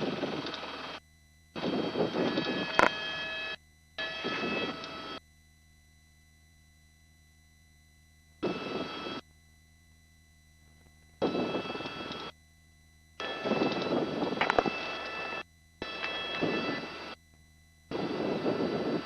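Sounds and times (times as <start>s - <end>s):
helicopter engine and rotor noise: 0.0s - 7.2s, 7.8s - 19.0s.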